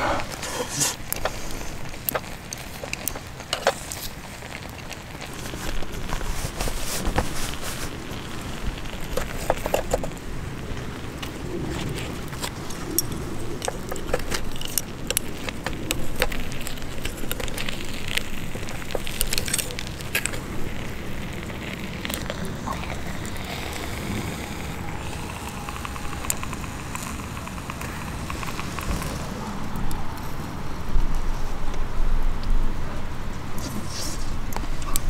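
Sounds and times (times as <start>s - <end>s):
wood campfire crackling: 0.0s - 35.0s.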